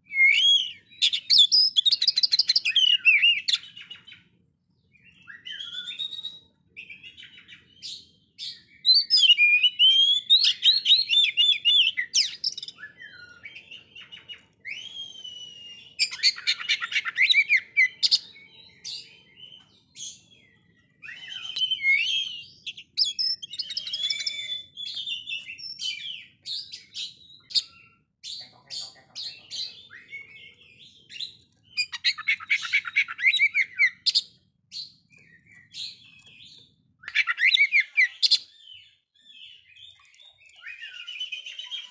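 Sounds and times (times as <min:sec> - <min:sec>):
bird singing varied song: 0:00.0 - 0:41.9.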